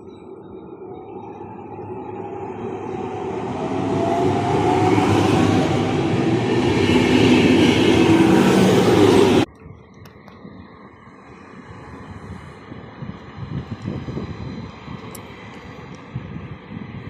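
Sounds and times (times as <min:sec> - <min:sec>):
train rumble and rail noise: 0:00.0 - 0:17.0.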